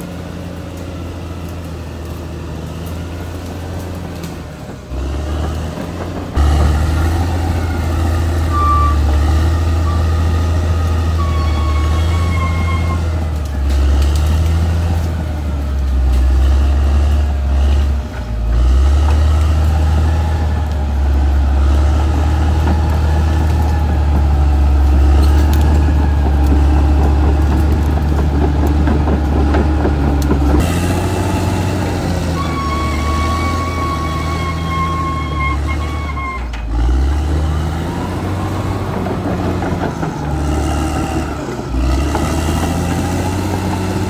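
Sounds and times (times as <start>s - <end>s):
bulldozer diesel engine: 0.0s - 44.0s
track clatter: 0.0s - 44.0s.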